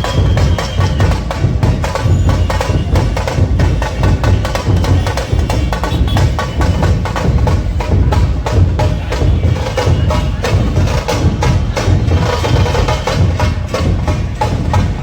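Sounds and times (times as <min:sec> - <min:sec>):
fast percussion music: 0:00.0 - 0:15.0.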